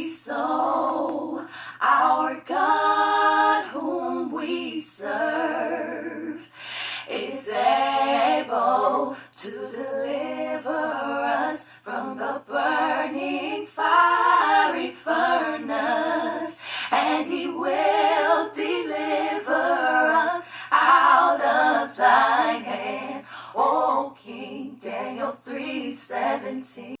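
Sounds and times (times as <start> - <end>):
woman singing unaccompanied: 0.0 - 27.0.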